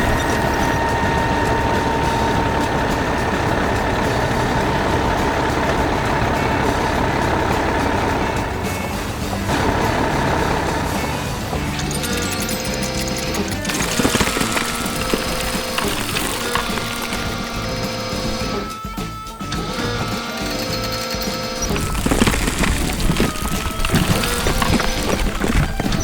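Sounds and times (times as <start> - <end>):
diesel engine running: 0.0 - 18.8, 19.5 - 26.0.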